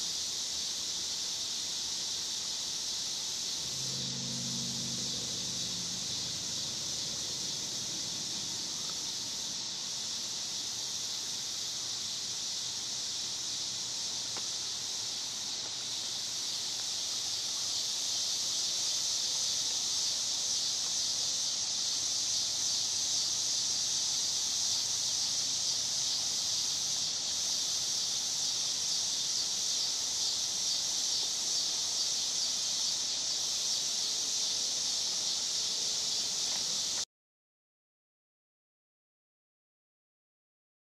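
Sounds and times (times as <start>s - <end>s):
insects chorus drone: 0.0s - 37.0s.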